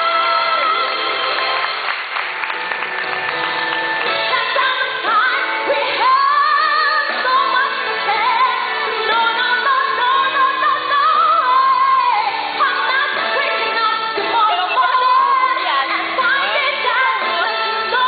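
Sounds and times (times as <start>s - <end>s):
woman singing with vibrato: 0.0s - 1.4s, 4.0s - 18.0s.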